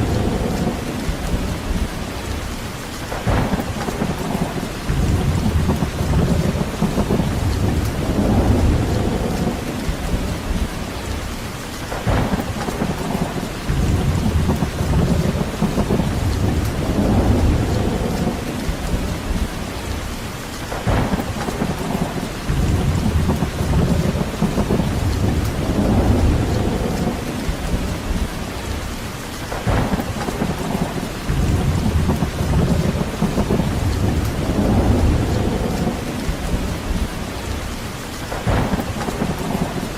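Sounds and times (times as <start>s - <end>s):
low rumble: 0.0s - 2.5s, 3.2s - 11.4s, 12.0s - 20.1s, 20.8s - 28.8s, 29.6s - 37.7s
steady rain: 0.0s - 39.9s.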